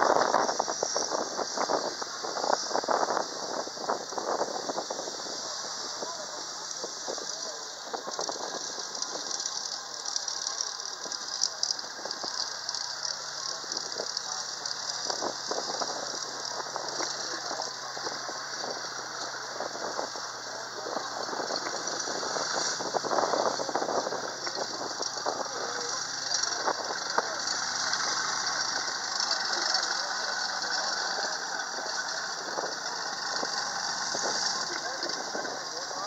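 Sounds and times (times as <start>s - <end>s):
clatter of tracks: 0.0s - 36.0s
constant high hiss: 0.0s - 36.0s
tracked vehicle engine hum: 0.0s - 36.0s.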